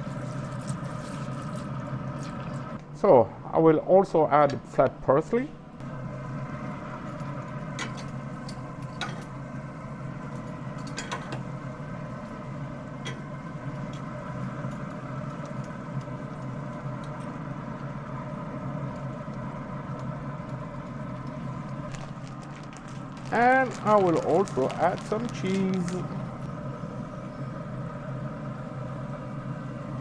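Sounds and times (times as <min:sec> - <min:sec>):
grill fan humming: 0:00.0 - 0:30.0.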